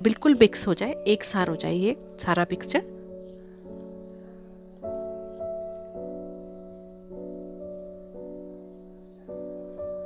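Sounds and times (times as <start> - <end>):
slow gentle piano music: 0.0 - 10.0.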